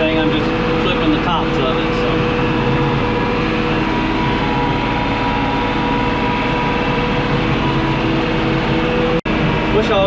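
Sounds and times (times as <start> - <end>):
mower whine: 0.0 - 10.0
tractor engine drone: 0.0 - 10.0.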